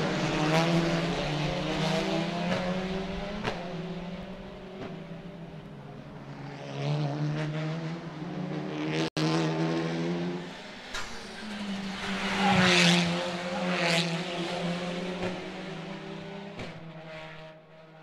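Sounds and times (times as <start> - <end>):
racing car engines passing: 0.0 - 18.0.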